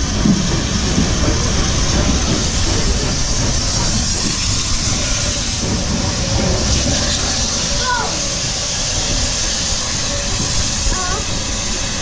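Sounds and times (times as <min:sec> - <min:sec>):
hiss of steam: 0:00.0 - 0:12.0.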